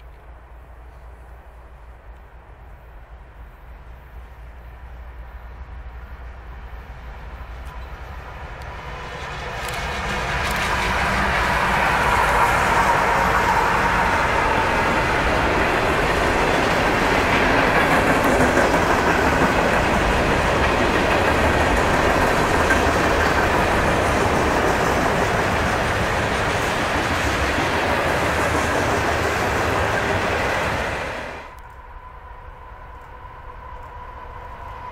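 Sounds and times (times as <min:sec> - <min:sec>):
diesel locomotives passing: 0:00.0 - 0:34.9
freight cars rolling on rails: 0:06.6 - 0:34.9.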